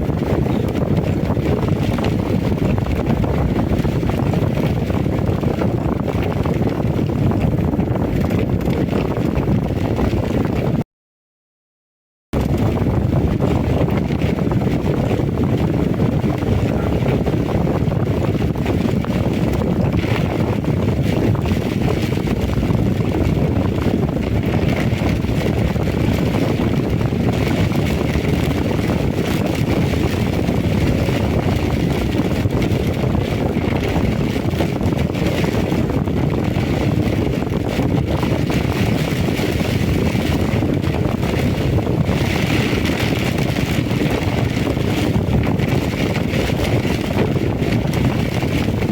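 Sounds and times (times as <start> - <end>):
heavy rain: 0.0 - 9.8, 12.4 - 48.9
wind buffeting microphone: 0.0 - 10.8, 12.3 - 48.9.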